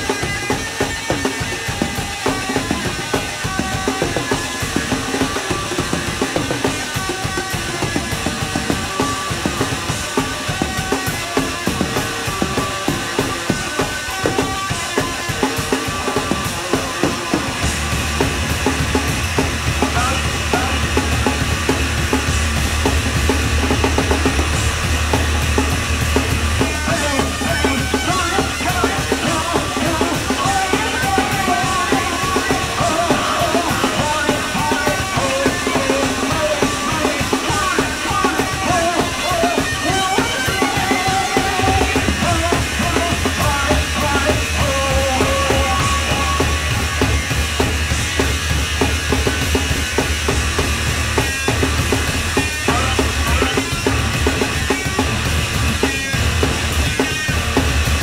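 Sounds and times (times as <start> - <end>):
distorted bass guitar: 0.0 - 58.0
fast drum kit pounding: 0.0 - 58.0.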